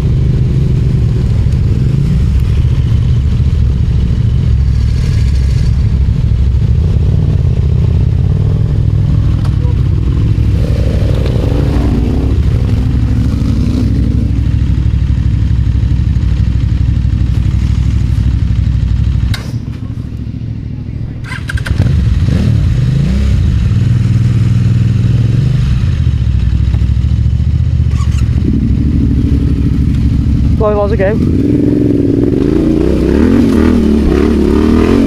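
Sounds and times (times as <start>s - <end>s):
motorcycle engine running: 0.0s - 35.0s
motorcycle starting and revving: 0.0s - 35.0s.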